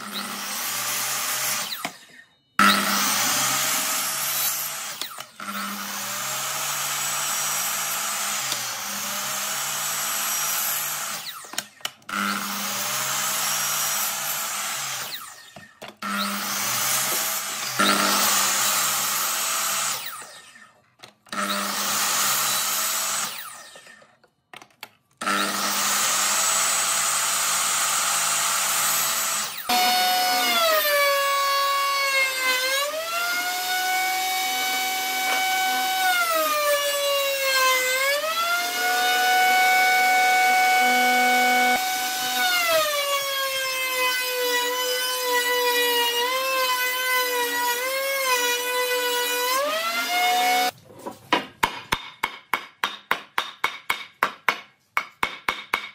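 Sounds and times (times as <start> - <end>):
miter saw cutting wood: 0.0 - 24.2, 25.2 - 50.8
router whining: 0.0 - 50.8.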